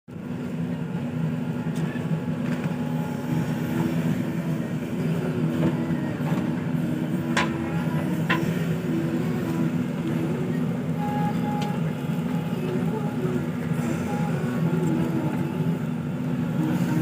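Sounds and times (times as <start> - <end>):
diesel engine running under load: 0.1 - 17.0.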